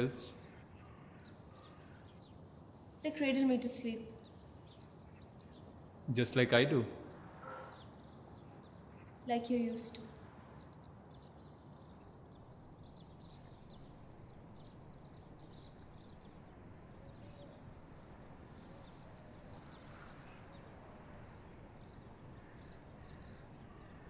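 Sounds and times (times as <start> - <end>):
faint background hiss: 0.0 - 7.4, 8.2 - 24.0
small birds chirping: 0.0 - 24.0.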